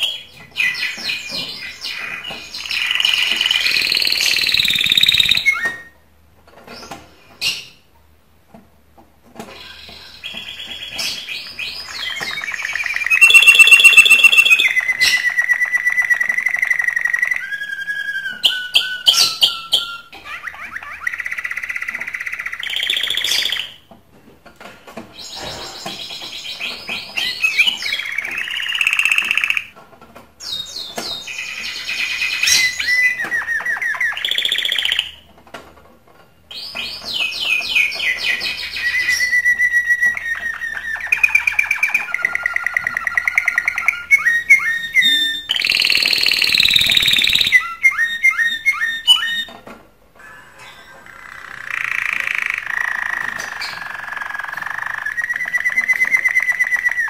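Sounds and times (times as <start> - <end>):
canary singing trills: 0.0 - 6.0, 9.4 - 23.9, 25.2 - 29.7, 30.4 - 35.3, 36.5 - 57.0.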